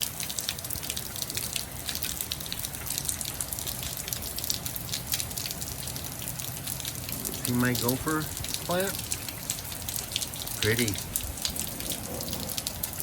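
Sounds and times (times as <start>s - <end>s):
hail falling: 0.0s - 13.0s.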